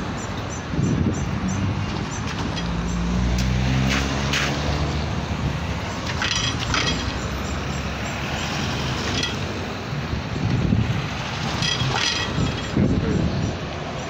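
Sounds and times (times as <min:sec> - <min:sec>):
road noise of passing vehicles: 0:00.0 - 0:14.0.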